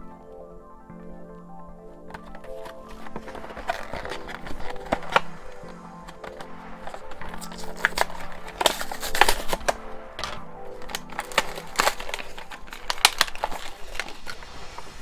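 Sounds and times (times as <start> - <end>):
background music: 0.0 - 15.0
plastic blister pack crinkling: 2.0 - 15.0
cardboard peeling: 2.1 - 15.0.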